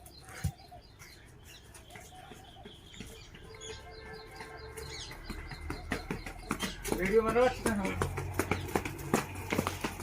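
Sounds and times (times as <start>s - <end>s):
faint birds chirping: 0.0s - 10.0s.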